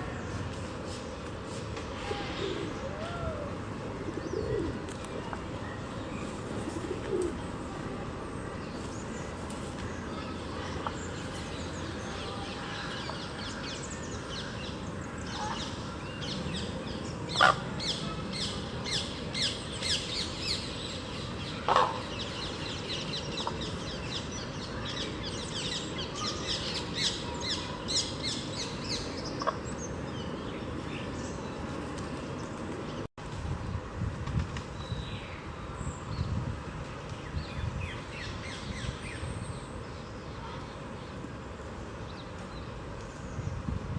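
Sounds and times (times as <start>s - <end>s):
background noise: 0.0s - 43.9s.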